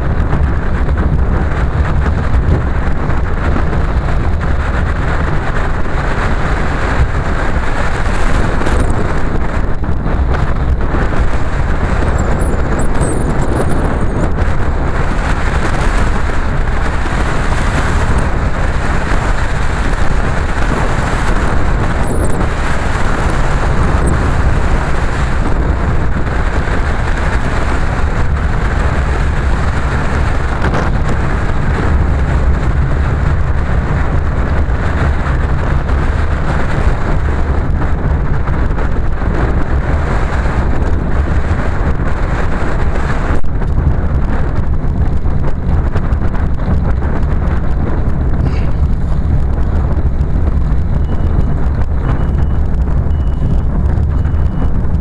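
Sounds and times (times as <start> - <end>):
car engine and road rumble: 0.0 - 55.0
wind buffeting microphone: 0.0 - 55.0.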